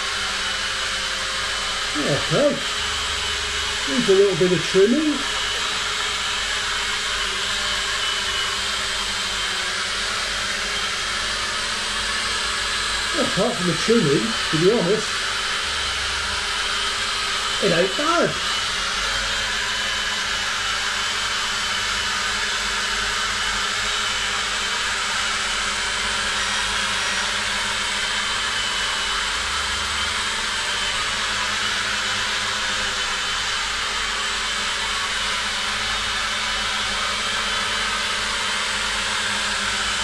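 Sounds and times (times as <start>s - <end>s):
quadcopter propellers whirring: 0.0s - 40.0s.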